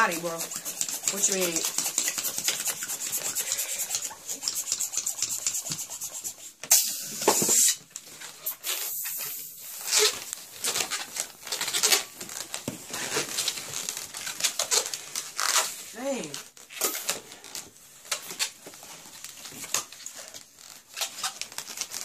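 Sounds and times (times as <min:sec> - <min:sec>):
hissing balloon scrape: 0:00.0 - 0:18.6
balloons squeaking and rubbing: 0:00.0 - 0:22.0.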